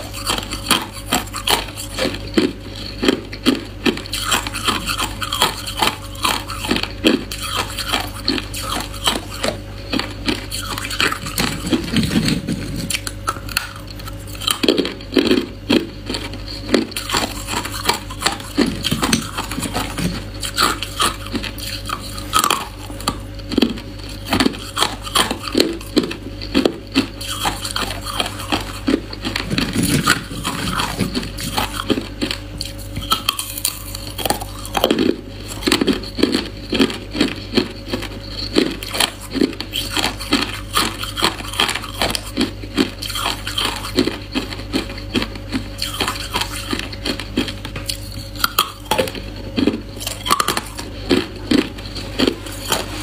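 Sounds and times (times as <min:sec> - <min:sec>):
ice crunching between teeth: 0:00.0 - 0:53.0
steady low hum: 0:00.0 - 0:53.0.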